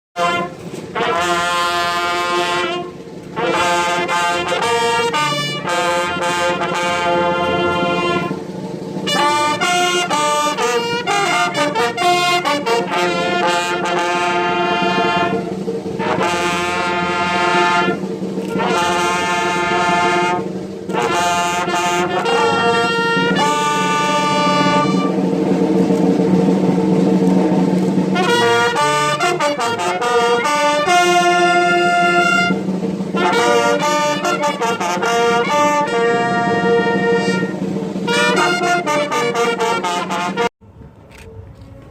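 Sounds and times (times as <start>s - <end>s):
brass band playing: 0.2s - 40.5s.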